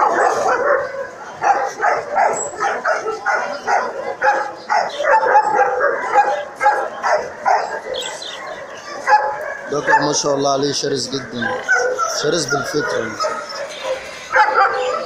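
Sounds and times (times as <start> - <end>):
dog barking aggressively: 0.0 - 10.4, 11.2 - 15.0
dog yipping: 0.0 - 10.4, 11.0 - 15.0.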